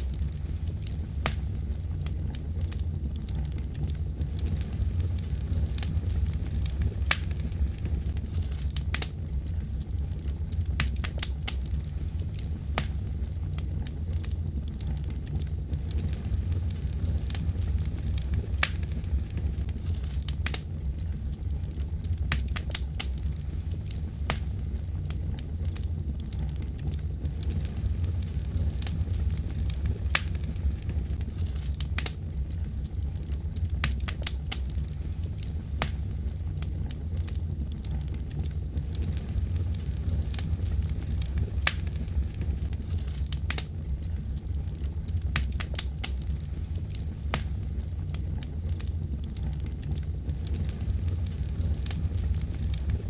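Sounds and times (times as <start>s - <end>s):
fire crackling and popping: 0.0s - 53.0s
low rumble of fire: 0.0s - 53.0s.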